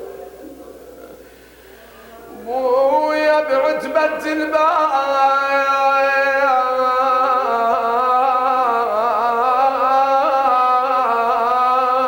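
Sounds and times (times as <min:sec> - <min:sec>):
man chanting a lament: 0:02.3 - 0:12.0.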